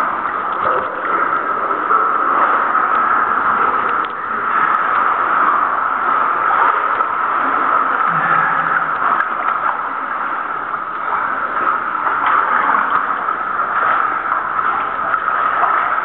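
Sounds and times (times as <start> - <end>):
small water splashes: 0.0 - 16.0
water sloshing and gurgling: 0.0 - 16.0.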